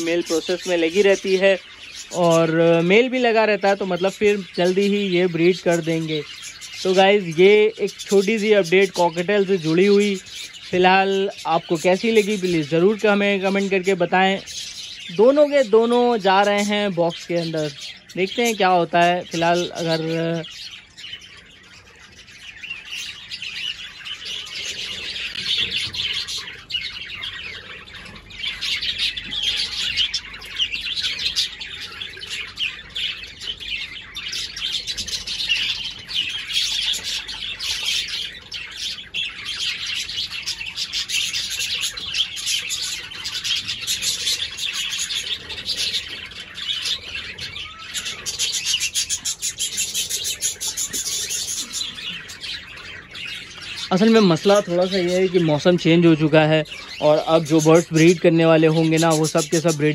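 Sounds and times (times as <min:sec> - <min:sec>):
birds chirping and chattering: 0:00.0 - 0:59.9.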